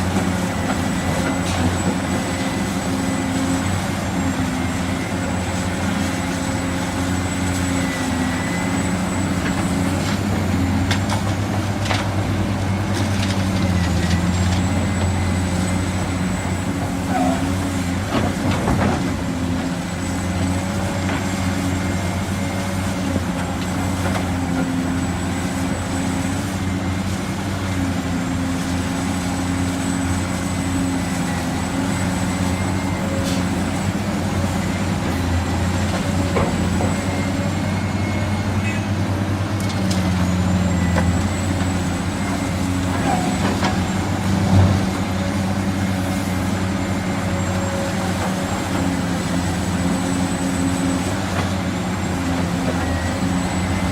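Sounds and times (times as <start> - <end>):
diesel machinery engine: 0.0 - 53.9.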